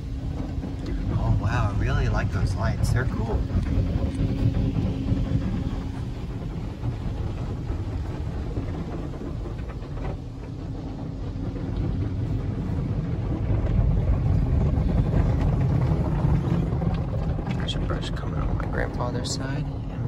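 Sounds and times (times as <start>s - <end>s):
car wash water and machinery rumble: 0.0s - 20.0s
faint hum: 0.0s - 20.0s.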